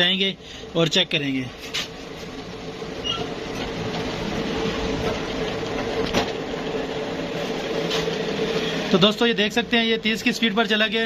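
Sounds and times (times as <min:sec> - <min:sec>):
motorcycle wheel whirring: 0:01.5 - 0:11.0.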